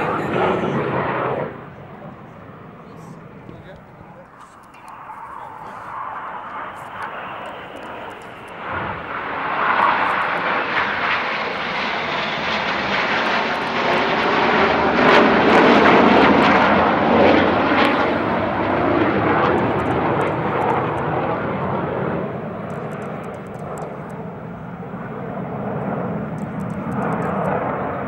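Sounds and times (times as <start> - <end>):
jets flying past roaring: 0.0 - 28.0.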